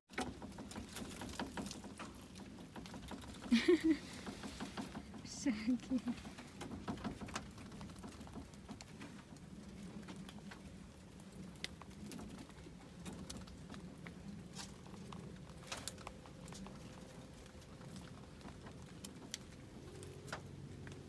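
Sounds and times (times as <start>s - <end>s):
paws tapping on wire mesh: 0.1s - 21.0s.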